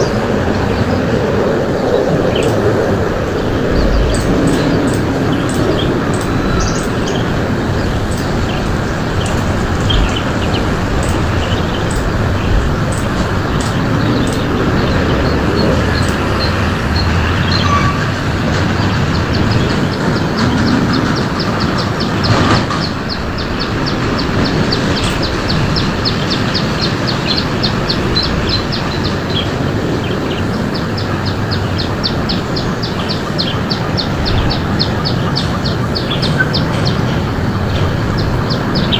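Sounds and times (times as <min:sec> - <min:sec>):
birds chirping: 0:00.0 - 0:38.9
steady rushing noise: 0:00.0 - 0:38.9.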